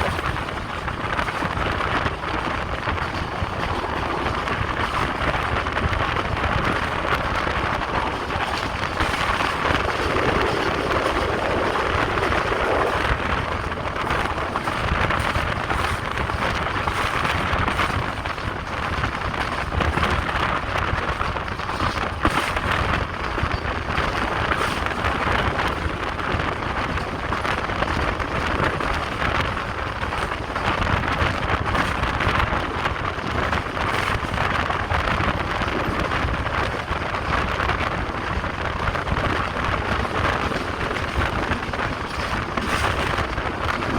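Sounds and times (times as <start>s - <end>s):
train wheels rumbling on track: 0.0s - 43.9s
wind over microphone: 0.0s - 43.9s.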